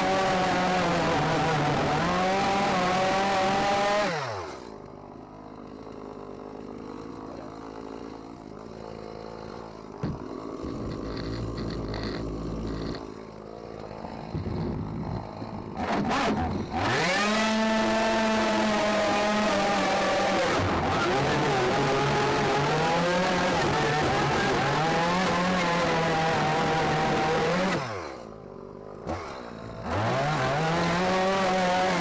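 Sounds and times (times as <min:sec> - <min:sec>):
chainsaw cutting fiberglass: 0:00.0 - 0:32.0
chainsaw revving and idling: 0:00.0 - 0:32.0.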